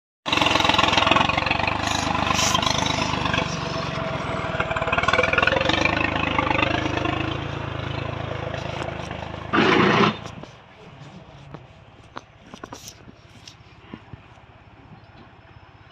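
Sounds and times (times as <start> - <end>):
tractor engine running: 0.3 - 15.9.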